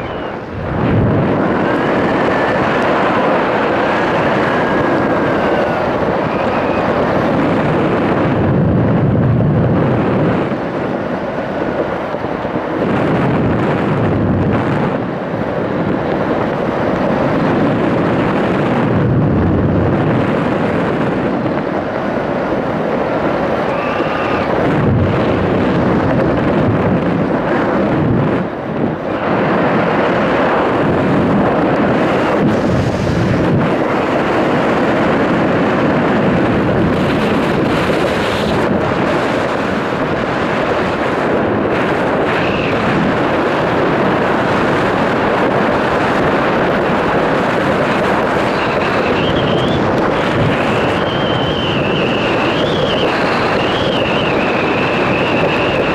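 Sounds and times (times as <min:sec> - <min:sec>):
wind on microphone: 0:00.0 - 0:55.9.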